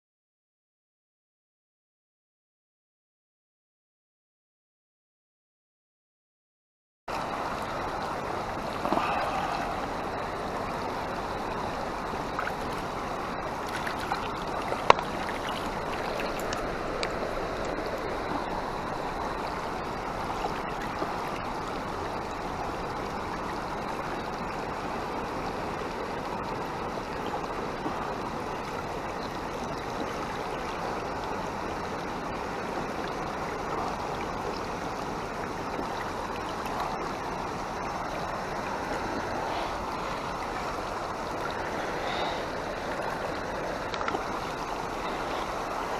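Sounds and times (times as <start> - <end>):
river water flowing: 7.1 - 45.9.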